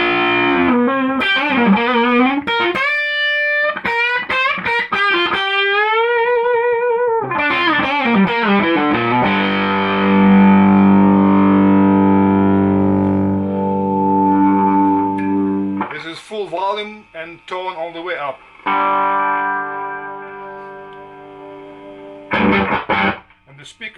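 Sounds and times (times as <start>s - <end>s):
electric guitar through valve amp: 0.0s - 23.9s.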